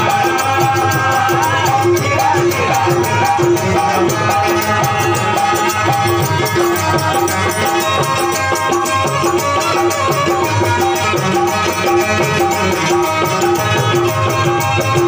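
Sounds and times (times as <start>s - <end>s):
harmonium sustained notes: 0.0s - 15.0s
jingling hand percussion: 0.0s - 15.0s.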